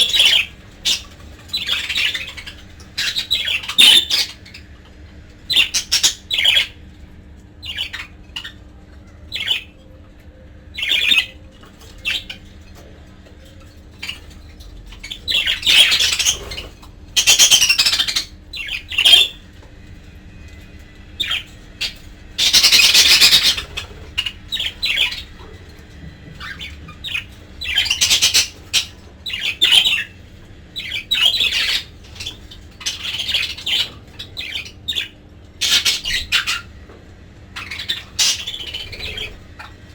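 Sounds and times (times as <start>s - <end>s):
budgerigars chattering and squawking: 0.0s - 10.0s, 10.6s - 19.6s, 20.5s - 39.9s
faint steady hum: 0.0s - 39.9s.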